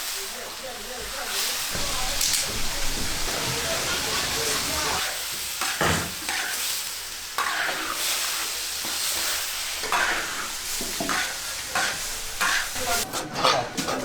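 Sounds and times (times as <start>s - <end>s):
food sizzling in a wok: 0.0s - 14.0s
spatula scraping a wok: 1.7s - 14.0s.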